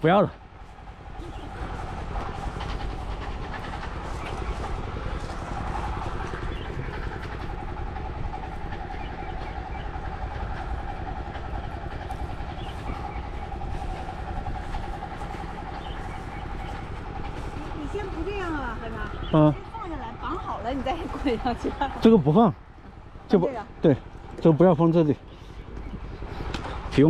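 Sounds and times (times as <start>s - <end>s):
low rumble: 0.0s - 27.0s
mid-pitched hum: 0.0s - 27.0s.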